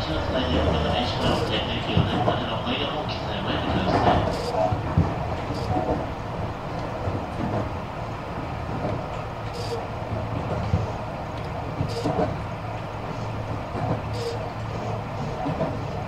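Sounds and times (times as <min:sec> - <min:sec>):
train interior rumble: 0:00.0 - 0:16.0.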